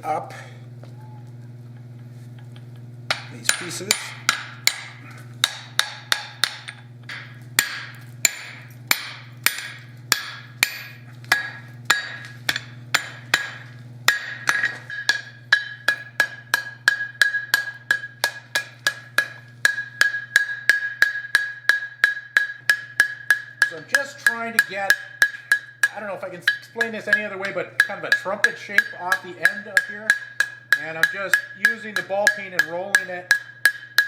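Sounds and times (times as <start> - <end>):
hammer striking steel on anvil: 3.1 - 34.0.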